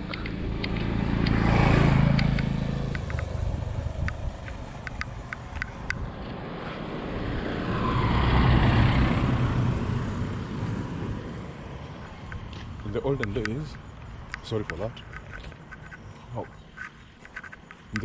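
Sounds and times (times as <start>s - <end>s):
vehicles passing on road: 0.0s - 18.0s.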